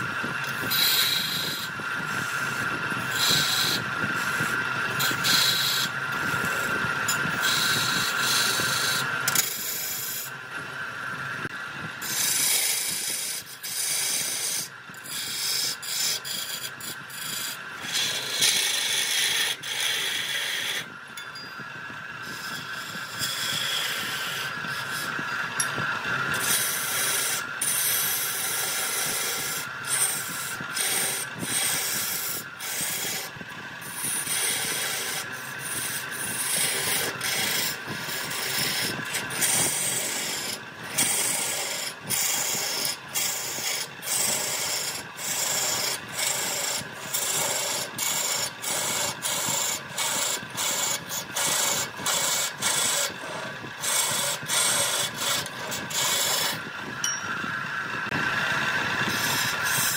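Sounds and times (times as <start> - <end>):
tool rasping on spinning wood: 0.0 - 10.4, 11.2 - 59.9.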